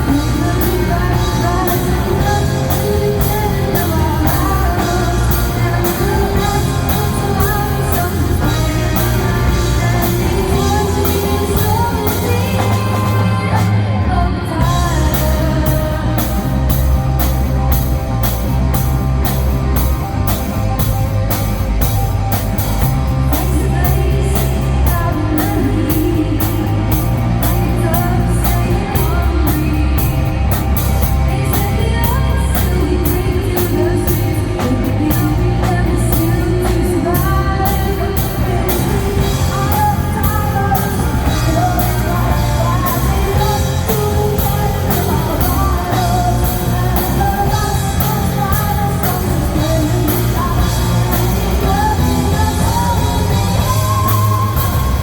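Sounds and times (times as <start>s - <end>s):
steady drum beat: 0.0s - 13.9s, 14.6s - 55.0s
person singing: 0.0s - 21.9s, 22.7s - 55.0s
guitar: 0.0s - 55.0s
rock band playing: 0.0s - 55.0s.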